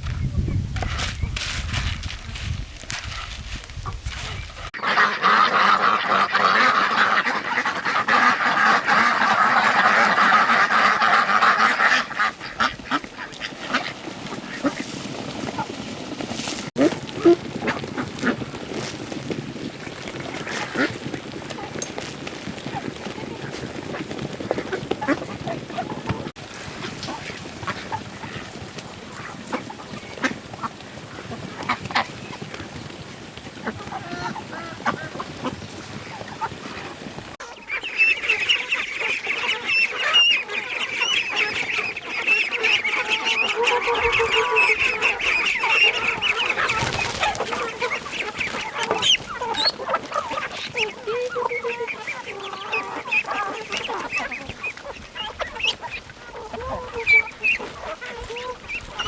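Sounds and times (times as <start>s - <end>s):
poultry flock calling: 2.8s - 19.0s, 22.0s - 59.0s.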